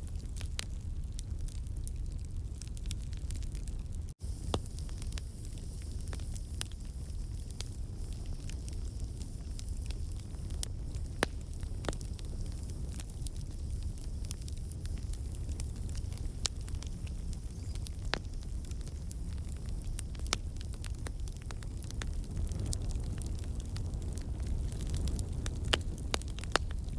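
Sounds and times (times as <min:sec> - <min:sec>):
logs popping and crackling: 0:00.0 - 0:26.9
low rumble of flames: 0:00.0 - 0:26.9.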